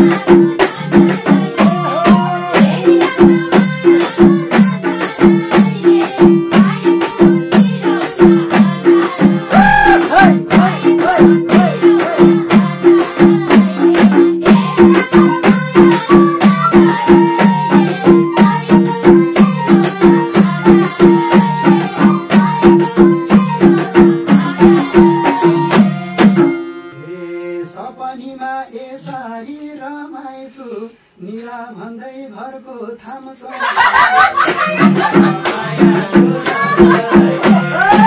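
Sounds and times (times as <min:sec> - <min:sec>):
women singing: 0:00.0 - 0:26.4, 0:27.4 - 0:38.0
hand drum beat: 0:00.0 - 0:26.6, 0:34.0 - 0:38.0.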